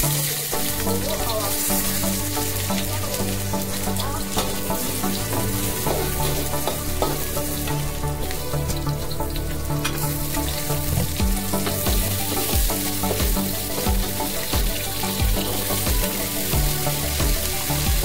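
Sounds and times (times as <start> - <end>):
aromatics sizzling in hot oil: 0.0 - 18.0.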